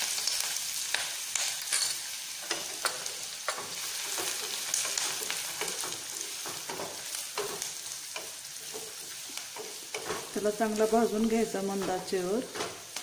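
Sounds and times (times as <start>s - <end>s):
onion sizzling in oil: 0.0s - 13.0s
spoon scraping pan: 1.4s - 13.0s.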